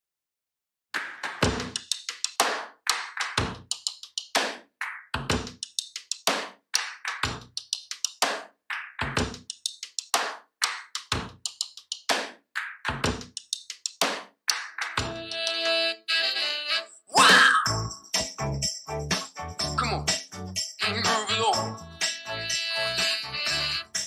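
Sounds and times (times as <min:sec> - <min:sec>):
percussion beat with deep drum hits: 0:01.3 - 0:15.3, 0:17.7 - 0:24.0.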